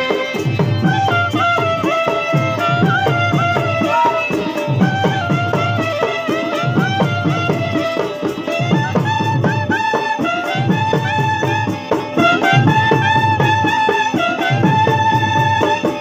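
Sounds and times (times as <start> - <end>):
fast hand-drum rhythm: 0.0 - 16.0.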